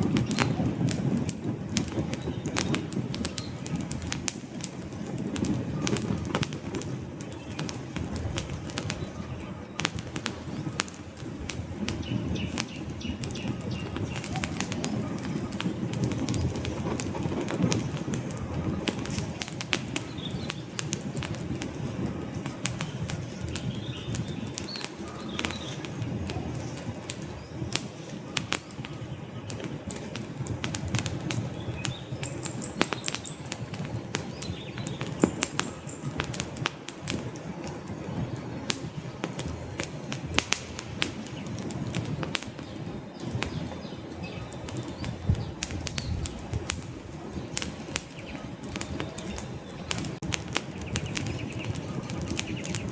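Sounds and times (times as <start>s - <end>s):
low rumble of flames: 0.0s - 52.9s
wood fire crackling and popping: 0.0s - 52.9s.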